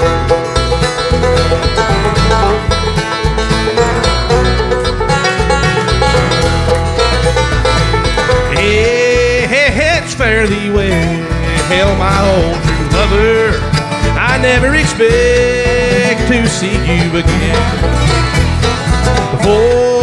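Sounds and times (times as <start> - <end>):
bluegrass band playing: 0.0 - 20.0
picked banjo: 0.0 - 20.0
pulsing bass: 0.0 - 20.0.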